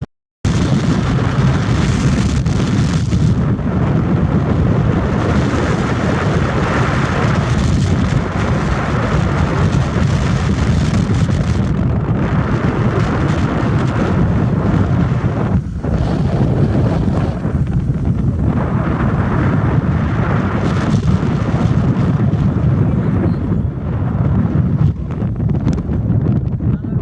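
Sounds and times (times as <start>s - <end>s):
wind buffeting microphone: 0.4s - 27.0s.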